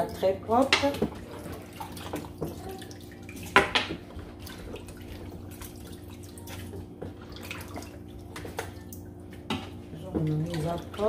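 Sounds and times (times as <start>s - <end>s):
water dripping: 0.0s - 11.0s
water splashing in basin: 0.0s - 11.0s.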